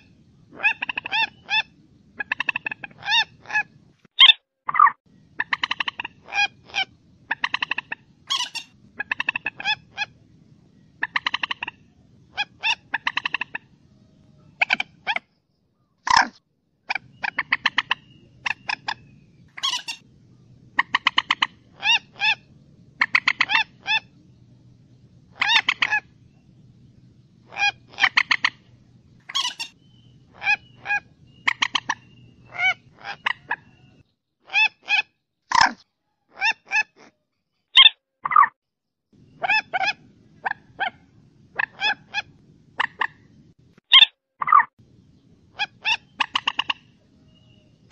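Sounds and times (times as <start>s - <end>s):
faint low hum: 0.0s - 4.1s, 5.1s - 34.1s, 39.2s - 43.8s, 44.8s - 47.9s
moorhen calling: 0.0s - 10.2s, 10.8s - 15.2s, 16.9s - 35.7s, 37.8s - 38.5s, 39.2s - 43.3s, 43.9s - 47.9s.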